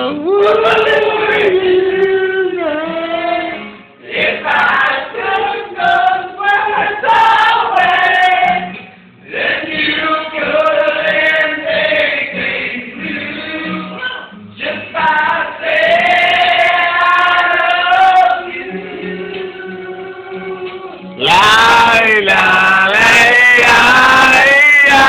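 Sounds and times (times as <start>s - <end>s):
group of people singing: 0.0s - 25.0s.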